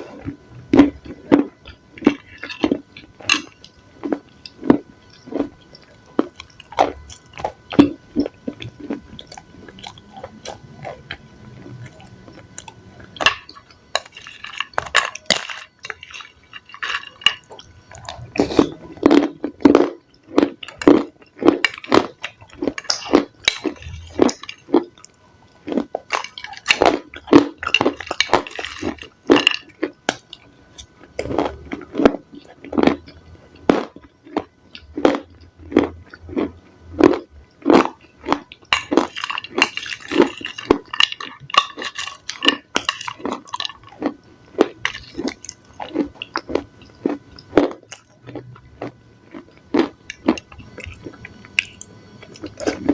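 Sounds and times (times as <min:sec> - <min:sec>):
chewing crunchy salad: 0:00.0 - 0:52.9.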